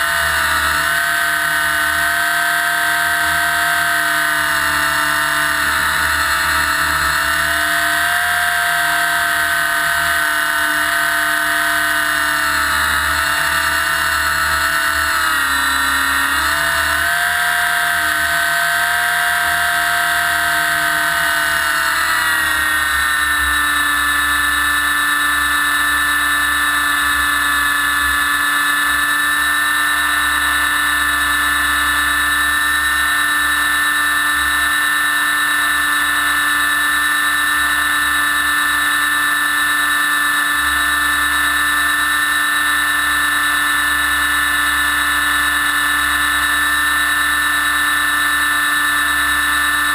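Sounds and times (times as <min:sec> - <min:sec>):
electric motor and gear whine: 0:00.0 - 0:49.9
helicopter rotor noise: 0:00.0 - 0:49.9.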